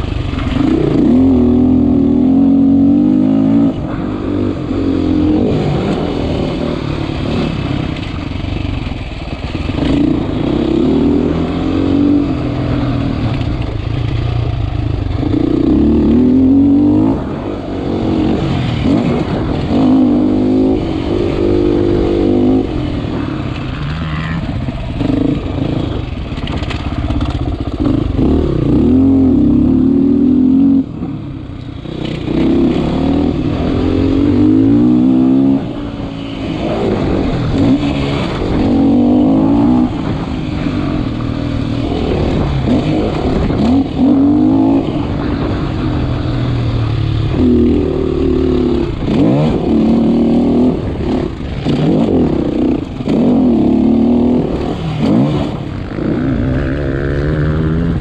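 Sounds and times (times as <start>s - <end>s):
dirt bike engine revving: 0.0s - 31.1s, 31.8s - 58.0s.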